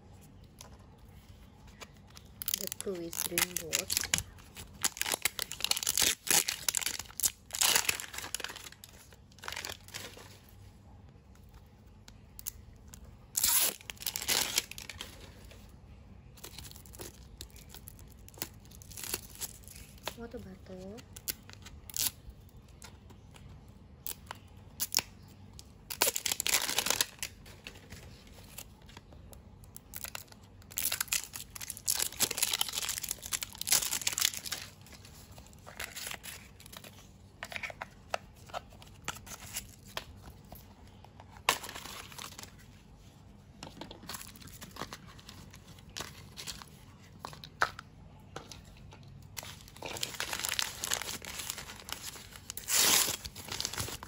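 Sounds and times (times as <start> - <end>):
plastic packaging crinkling: 0.2 - 10.6, 12.2 - 15.7, 16.3 - 54.0.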